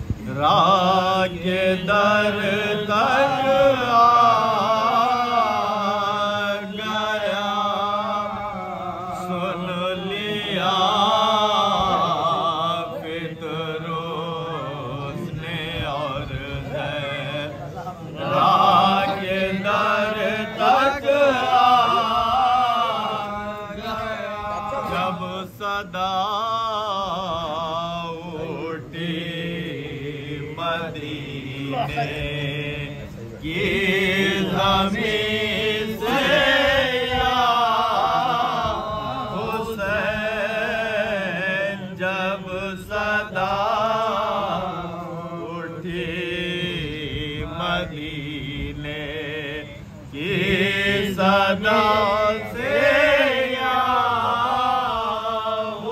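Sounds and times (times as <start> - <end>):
men chanting without instruments: 0.0 - 55.9.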